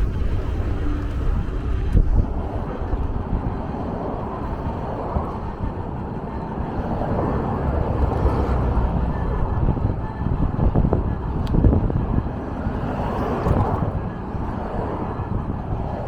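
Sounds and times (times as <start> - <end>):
vehicle in motion: 0.0 - 16.0.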